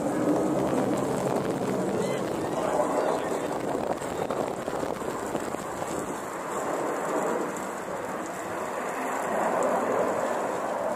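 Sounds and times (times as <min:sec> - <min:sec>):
fighter jets passing overhead: 0:00.0 - 0:10.9.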